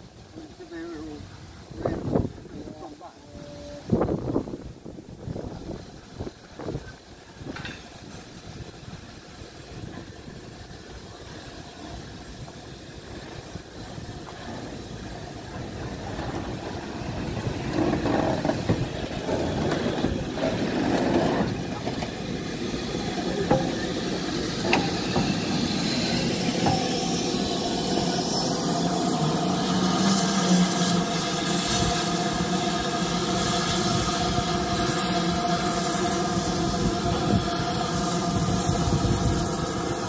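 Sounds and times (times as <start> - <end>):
steam hissing: 0.0 - 40.0
steam locomotive moving slowly: 0.0 - 40.0.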